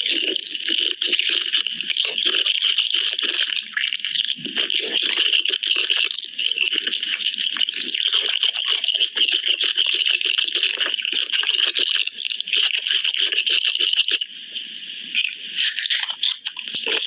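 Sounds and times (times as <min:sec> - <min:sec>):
wet mouth sounds: 0:00.0 - 0:14.3, 0:15.1 - 0:17.0.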